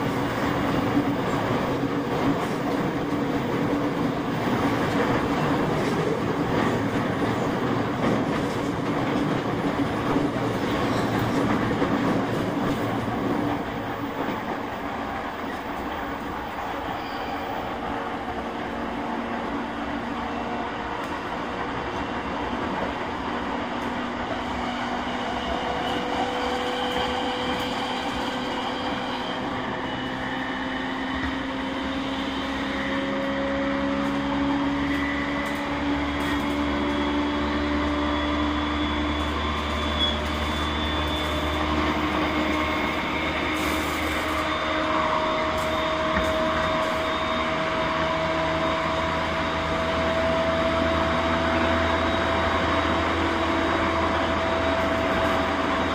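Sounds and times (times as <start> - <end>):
train traction motors whining: 0.0 - 55.9
train wheels rumbling on rail: 0.0 - 55.9.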